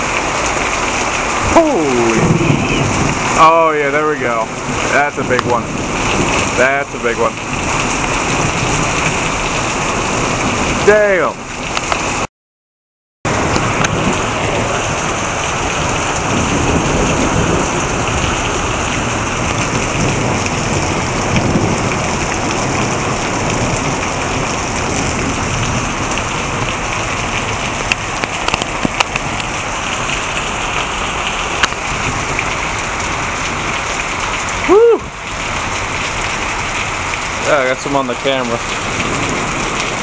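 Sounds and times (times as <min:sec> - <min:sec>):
heavy rain pouring: 0:00.0 - 0:12.3, 0:13.3 - 0:40.0
thunder rumbling: 0:01.3 - 0:10.9, 0:13.3 - 0:40.0.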